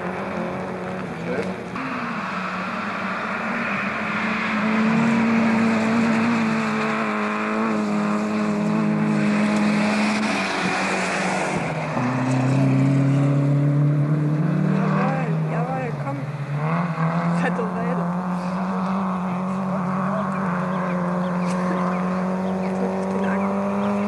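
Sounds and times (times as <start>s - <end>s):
rally car engine running hard: 0.0s - 24.0s.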